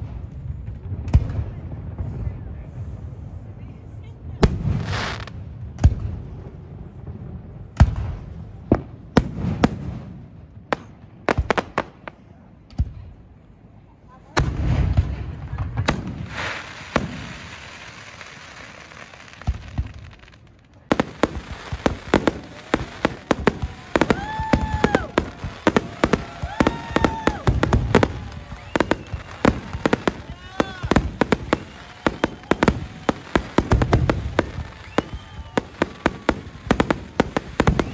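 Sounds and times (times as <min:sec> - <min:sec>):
fireworks crackling: 0:00.0 - 0:12.4, 0:14.2 - 0:37.9
fireworks bursting with bangs: 0:00.0 - 0:13.2, 0:14.3 - 0:37.9.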